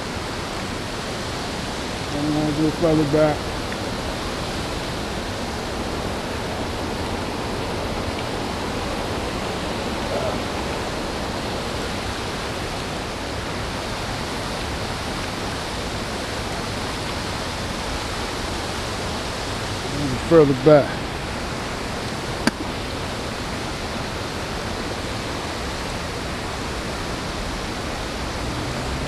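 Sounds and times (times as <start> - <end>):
creek water running over rocks: 0.0 - 29.0.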